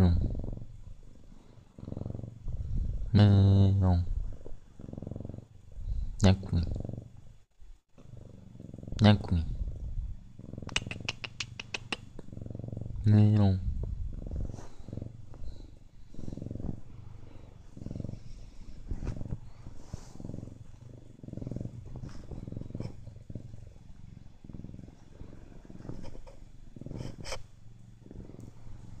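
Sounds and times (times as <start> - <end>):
cat purring: 0.0 - 29.0.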